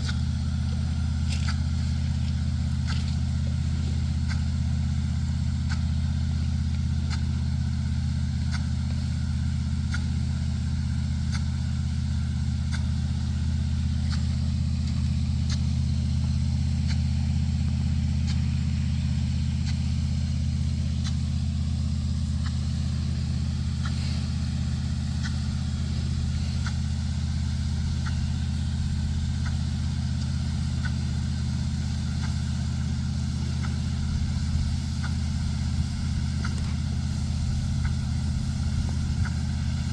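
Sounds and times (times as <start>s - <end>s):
large engine running steadily: 0.0s - 39.9s.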